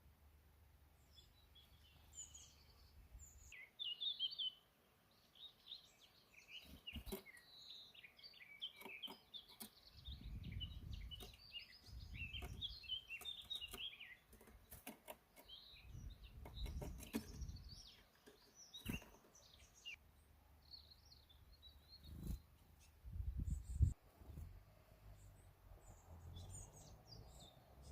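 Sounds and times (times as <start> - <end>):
small birds chirping: 0.7 - 27.9.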